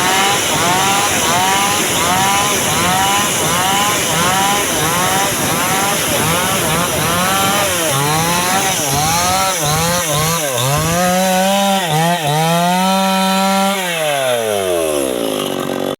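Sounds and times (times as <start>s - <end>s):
chainsaw cutting wood: 0.0s - 15.9s.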